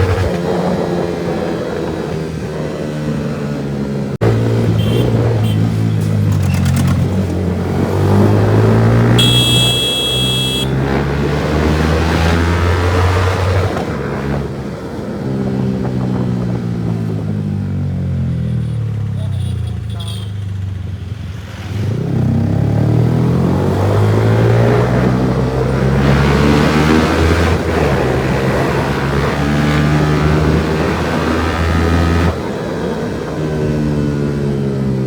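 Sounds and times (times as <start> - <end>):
loud motorcycle engine: 0.0 - 35.0.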